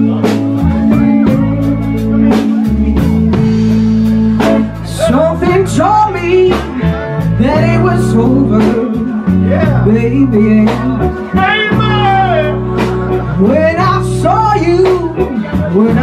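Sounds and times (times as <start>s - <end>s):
blues band playing slow ballad: 0.0s - 16.0s
electric guitar melody with bent notes: 0.0s - 16.0s.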